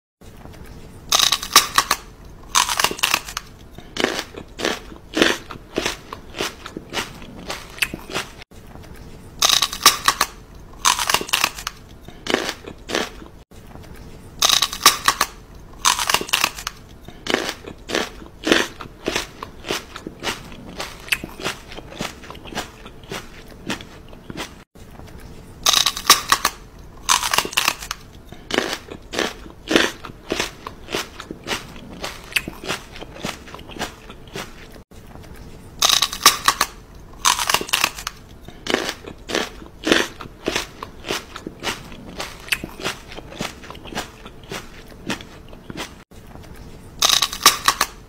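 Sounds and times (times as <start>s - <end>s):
crunchy chewing: 0.2s - 48.0s.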